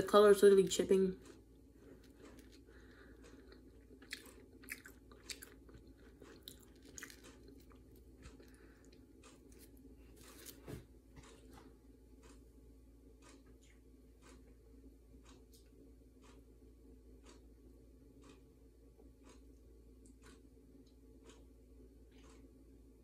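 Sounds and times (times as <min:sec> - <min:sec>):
room hum: 0:00.0 - 0:23.0.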